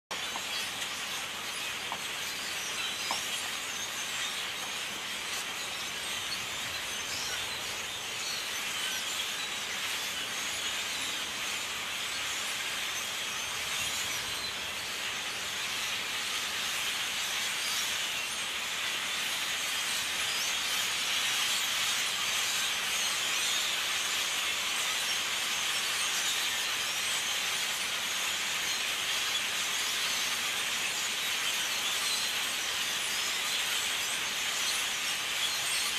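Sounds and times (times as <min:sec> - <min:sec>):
flock of blackbirds calling: 0:00.1 - 0:35.9.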